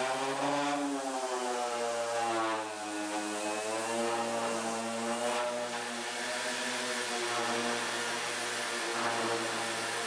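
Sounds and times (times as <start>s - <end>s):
orbital sander on wood: 0.0s - 10.0s.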